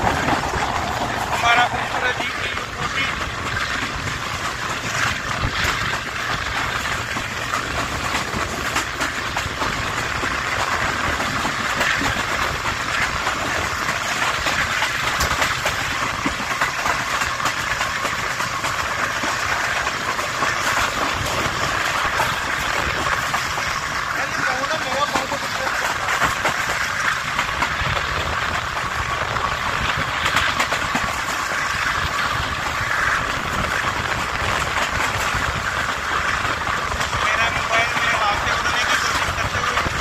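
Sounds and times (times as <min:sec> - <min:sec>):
train wheels rumbling: 0:00.0 - 0:40.0.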